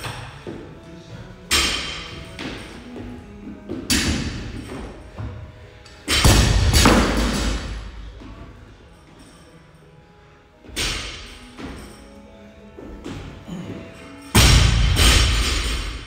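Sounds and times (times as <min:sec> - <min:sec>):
quiet background music: 0:00.0 - 0:16.0.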